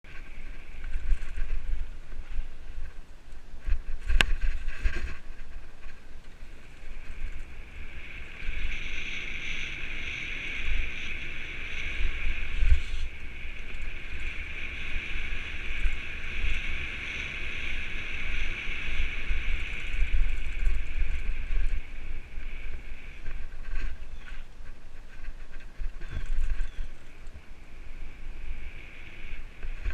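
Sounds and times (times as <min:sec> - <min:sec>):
wind buffeting microphone: 0:00.0 - 0:29.9
bike tires rolling hiss: 0:00.1 - 0:29.9.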